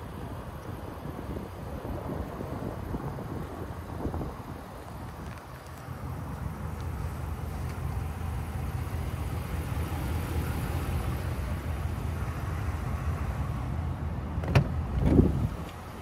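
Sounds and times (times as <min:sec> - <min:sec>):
engine idling with low rumble: 0:00.0 - 0:16.0.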